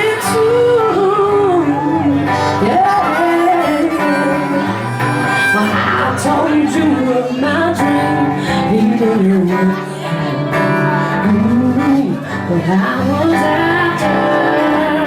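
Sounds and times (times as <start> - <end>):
soul band playing live: 0.0 - 15.0.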